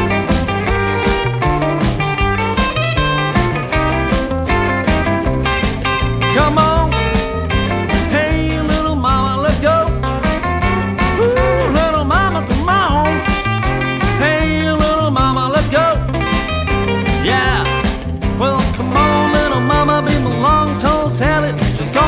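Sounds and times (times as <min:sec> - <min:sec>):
driving bass line: 0:00.0 - 0:22.0
electric guitar solo: 0:00.0 - 0:22.0
steady drum beat: 0:00.0 - 0:22.0.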